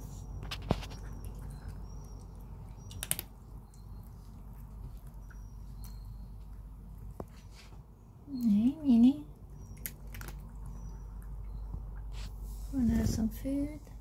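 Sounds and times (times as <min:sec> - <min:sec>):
small birds chirping: 0:00.0 - 0:13.8
faint low hum: 0:00.0 - 0:14.0.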